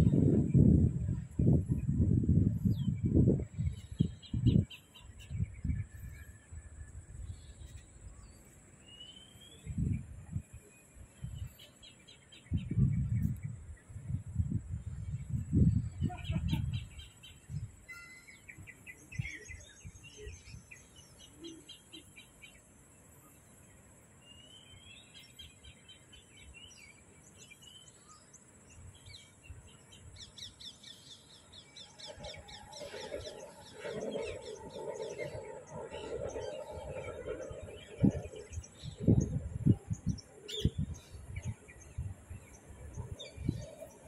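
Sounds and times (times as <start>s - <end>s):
small birds chirping and trilling: 0.0s - 44.0s.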